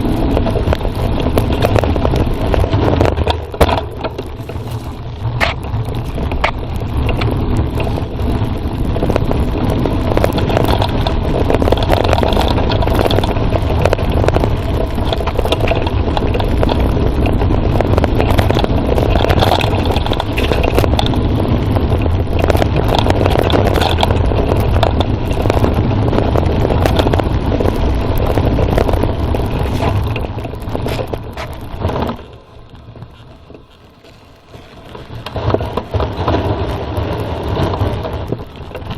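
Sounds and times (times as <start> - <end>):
mountain bike rattling on trail: 0.0 - 38.9
wind buffeting microphone: 0.0 - 38.9.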